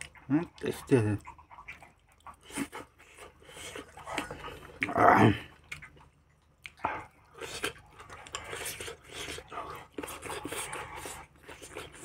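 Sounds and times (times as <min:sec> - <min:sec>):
man chewing wetly: 0:00.0 - 0:12.0
lip smacks: 0:01.2 - 0:12.0.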